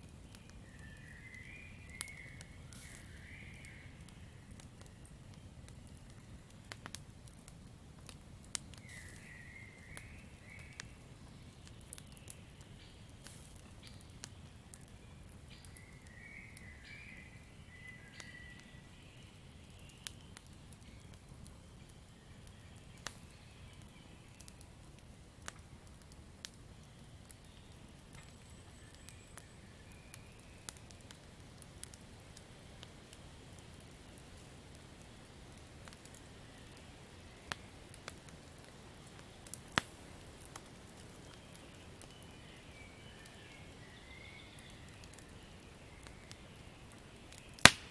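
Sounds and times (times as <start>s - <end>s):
campfire crackling and popping: 0.0s - 47.9s
low rumble of burning wood: 0.0s - 47.9s.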